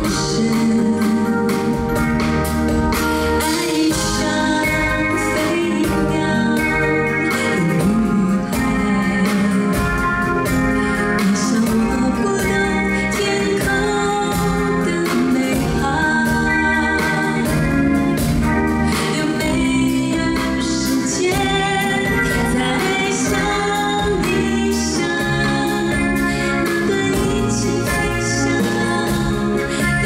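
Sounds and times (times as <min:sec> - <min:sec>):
band with guitar: 0:00.0 - 0:30.0
woman singing pop song: 0:00.0 - 0:30.0.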